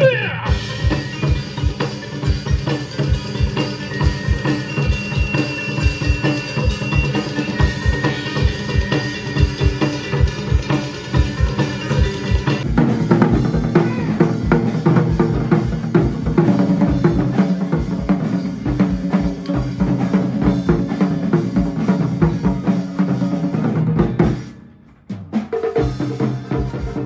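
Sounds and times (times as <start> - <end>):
fast drumming: 0.0 - 27.0.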